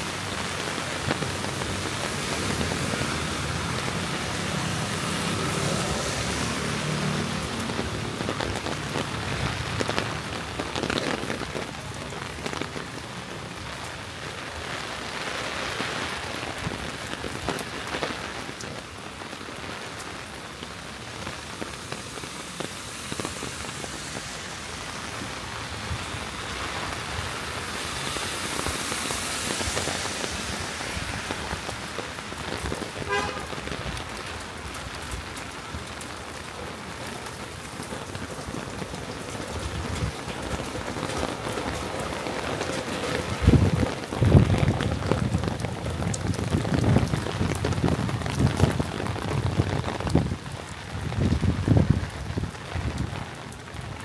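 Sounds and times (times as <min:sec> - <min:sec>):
steady rain on street: 0:00.0 - 0:54.0
vehicle passing on wet road: 0:00.0 - 0:54.0.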